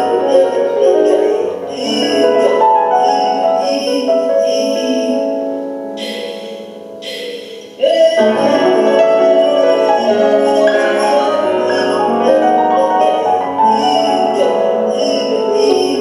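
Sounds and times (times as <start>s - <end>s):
grand piano and percussion music: 0.0s - 16.0s.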